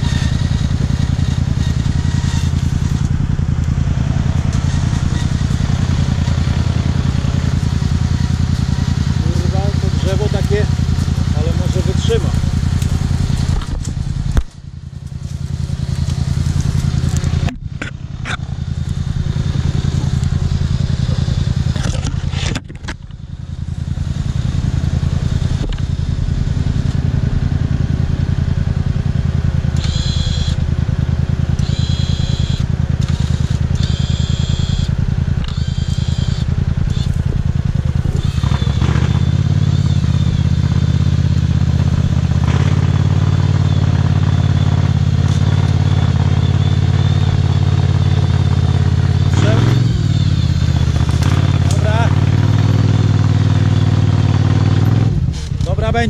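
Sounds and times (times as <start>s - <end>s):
high whine: 0.0s - 54.1s
quad bike engine revving: 0.0s - 56.0s.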